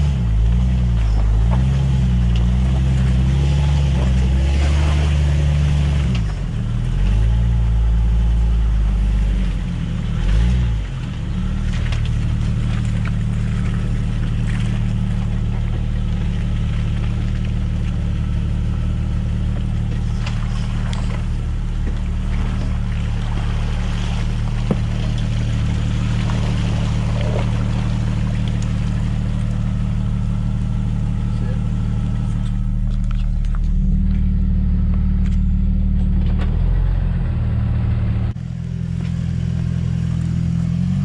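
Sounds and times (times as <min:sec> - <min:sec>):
engine running at low revs: 0:00.0 - 0:41.0.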